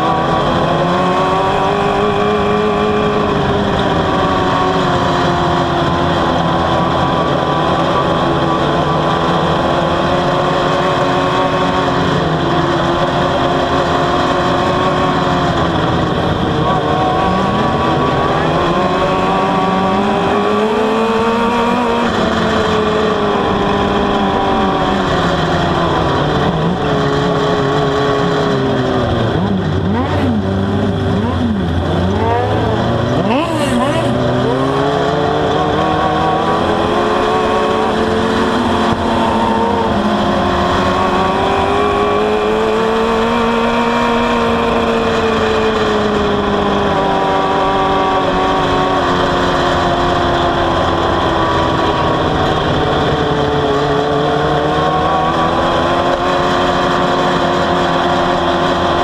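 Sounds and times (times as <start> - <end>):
other race car engines: 0.0 - 59.0
race car engine revving: 0.0 - 59.0.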